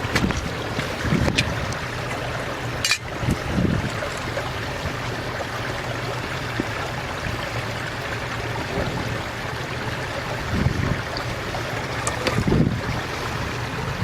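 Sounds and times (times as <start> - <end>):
wind rumbling on microphone: 0.0 - 2.4, 3.0 - 5.5, 6.4 - 14.0
waves washing on shore: 0.0 - 14.0.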